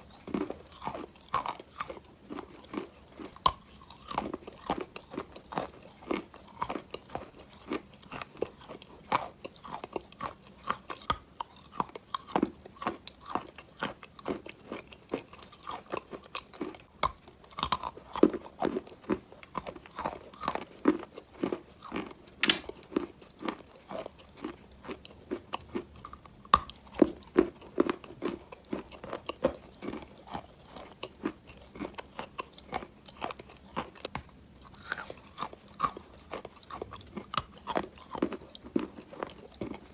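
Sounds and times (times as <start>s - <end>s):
chewing wet chalk: 0.0s - 39.9s.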